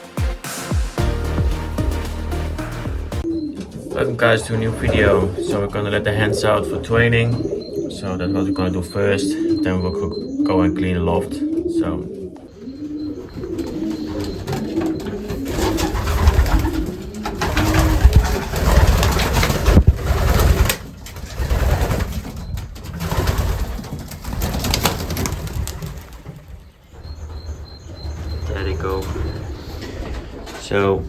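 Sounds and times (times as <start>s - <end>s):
pigeons cooing: 3.2s - 31.0s.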